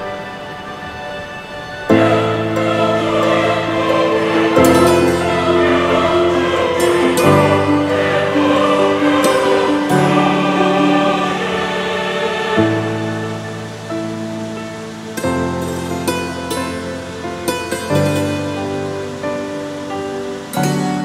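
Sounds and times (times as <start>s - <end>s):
background music sustained chords: 0.0s - 21.0s.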